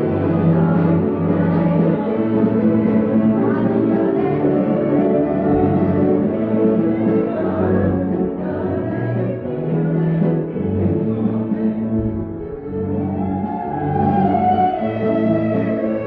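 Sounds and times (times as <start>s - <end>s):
group singing a yodel song: 0.0s - 16.0s
instrumental accompaniment: 0.0s - 16.0s.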